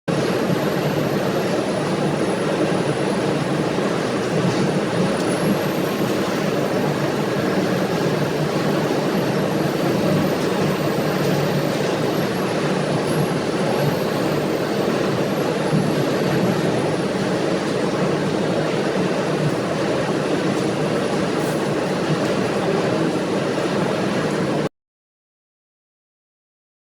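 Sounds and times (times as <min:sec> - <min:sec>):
industrial machinery running: 0:00.1 - 0:24.7.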